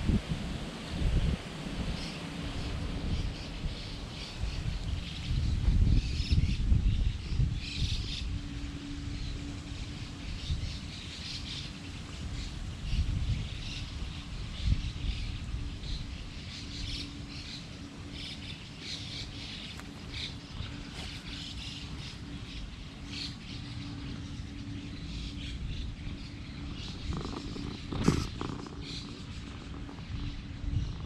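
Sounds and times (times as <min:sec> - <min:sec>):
low outdoor background rumble: 0:00.0 - 0:31.0
small birds chirping: 0:01.8 - 0:31.0.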